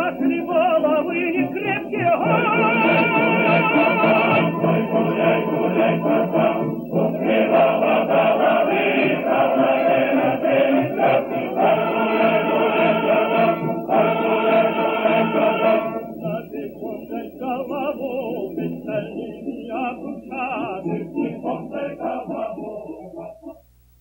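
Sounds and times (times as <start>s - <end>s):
choir singing: 0.0s - 23.5s.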